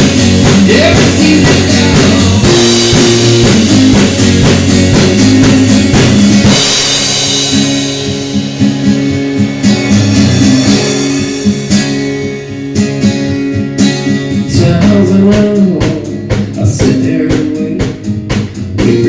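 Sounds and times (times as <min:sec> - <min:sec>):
bass: 0:00.0 - 0:19.0
drum kit: 0:00.0 - 0:19.0
guitar: 0:00.0 - 0:19.0.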